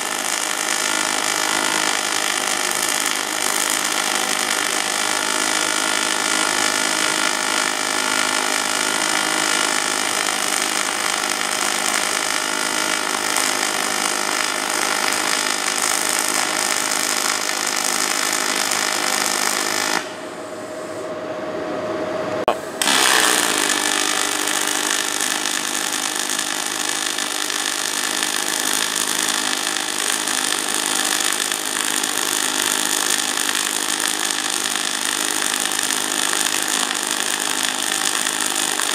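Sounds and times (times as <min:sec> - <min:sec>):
welding arc hissing with hum: 0:00.0 - 0:21.0, 0:22.7 - 0:38.9.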